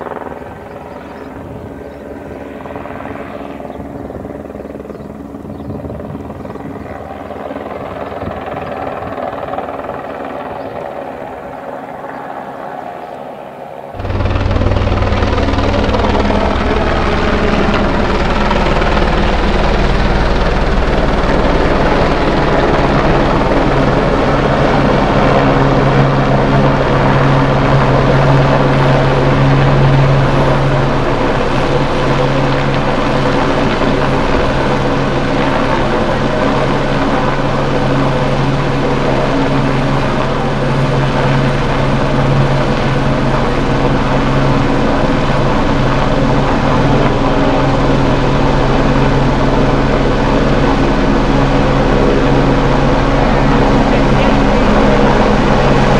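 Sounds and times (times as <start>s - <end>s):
helicopter rotor drone: 0.0s - 55.9s.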